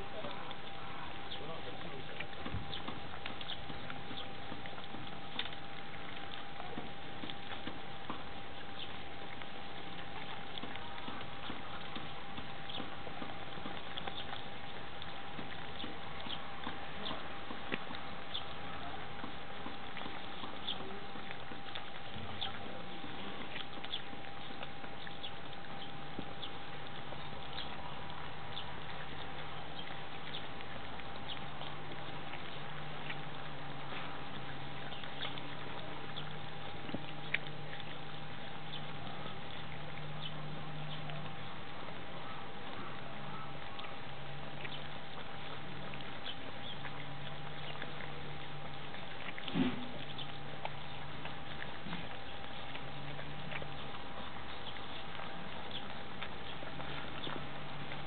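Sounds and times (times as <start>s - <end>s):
puppies eating wet smacking: 0.0s - 58.0s
steady low hum: 0.0s - 58.0s.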